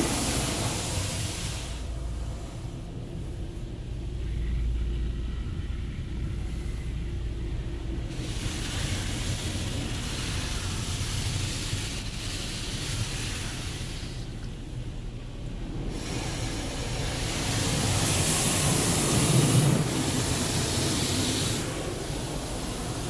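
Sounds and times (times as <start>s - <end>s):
water spray hissing on vehicle: 0.0s - 4.6s, 6.1s - 14.9s, 15.6s - 23.0s
low rumble: 0.0s - 23.0s.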